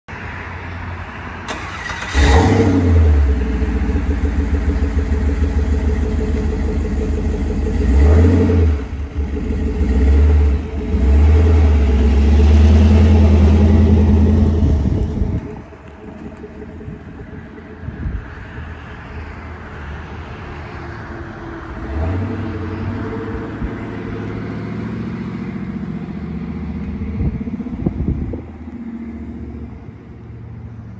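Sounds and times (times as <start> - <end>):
engine revving and pulling away: 0.4 - 30.9.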